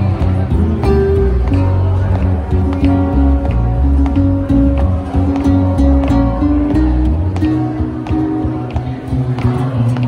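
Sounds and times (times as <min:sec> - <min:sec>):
bass line: 0:00.0 - 0:10.0
gypsy jazz guitar picking: 0:00.0 - 0:10.0.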